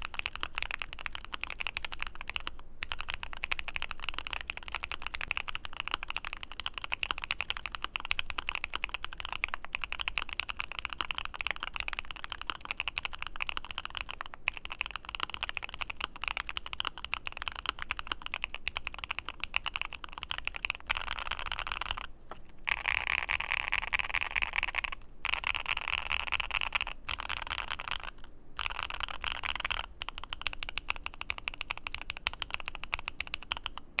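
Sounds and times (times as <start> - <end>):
fast mechanical keyboard typing: 0.0 - 34.0.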